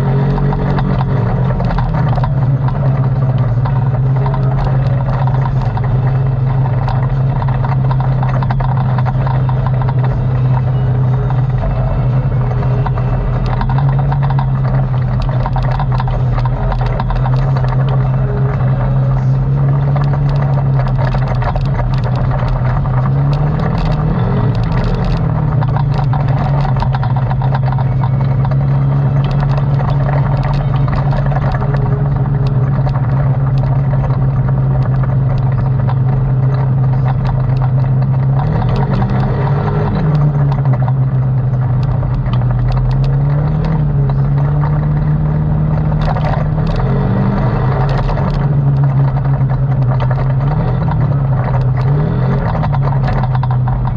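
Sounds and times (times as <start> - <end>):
atv engine revving: 0.0 - 53.9
rattles and knocks over rough ground: 0.0 - 53.9.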